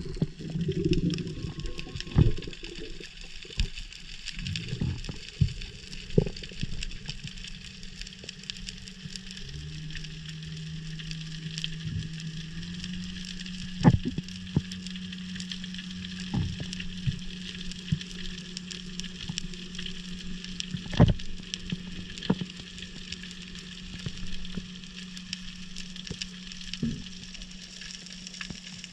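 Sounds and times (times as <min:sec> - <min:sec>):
low underwater hum: 0:00.0 - 0:28.9
snapping shrimp crackle: 0:00.0 - 0:28.9.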